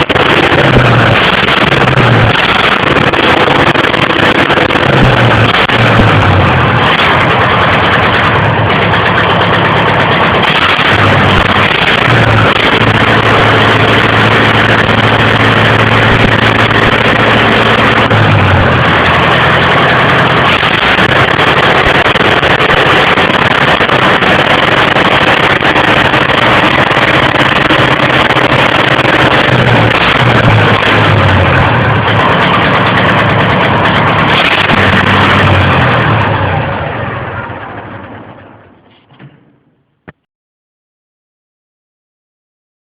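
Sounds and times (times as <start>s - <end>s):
tractor diesel engine running: 0.0s - 40.2s.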